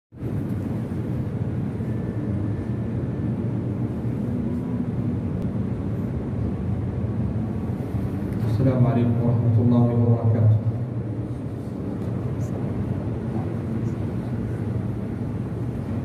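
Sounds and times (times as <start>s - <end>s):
ceiling fans running: 0.2s - 16.0s
room noise rumble: 0.2s - 16.0s.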